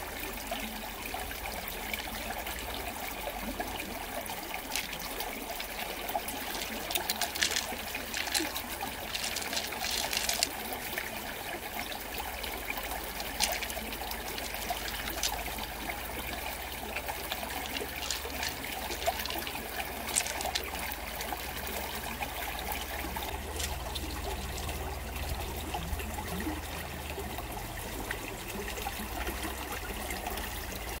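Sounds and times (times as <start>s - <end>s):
stream trickling over rocks: 0.0s - 31.0s.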